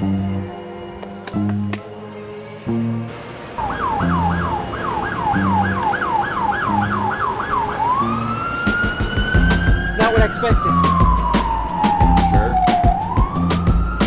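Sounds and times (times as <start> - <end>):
emergency vehicle siren: 2.7 - 14.0.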